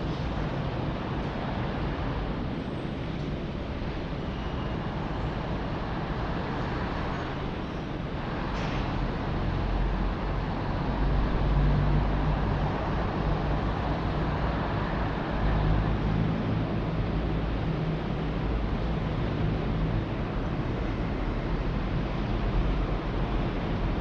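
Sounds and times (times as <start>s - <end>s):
passing vehicles hum: 0.0s - 24.0s.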